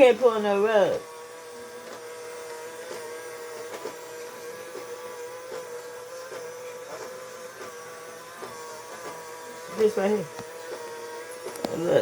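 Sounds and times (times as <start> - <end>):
robot vacuum motor whine: 0.0 - 12.0.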